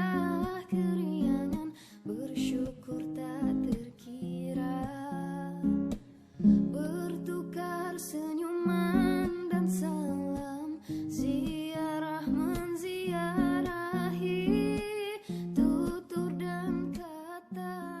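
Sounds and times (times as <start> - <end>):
plucked acoustic guitar music: 0.0 - 18.0.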